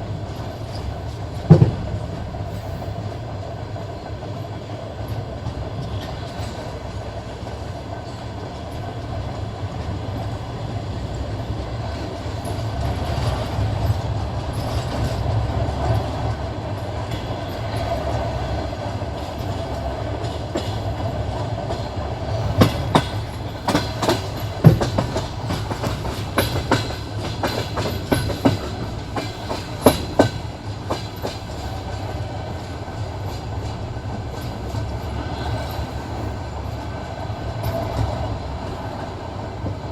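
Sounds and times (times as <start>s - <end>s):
train rumbling on rails: 0.0s - 39.9s
wheels clacking over rail joints: 3.9s - 39.9s.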